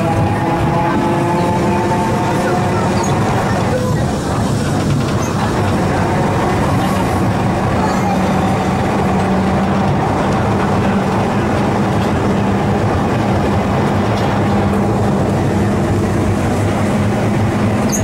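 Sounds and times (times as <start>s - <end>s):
tram hum: 0.0s - 18.0s
wheels rumbling on rails: 0.0s - 18.0s.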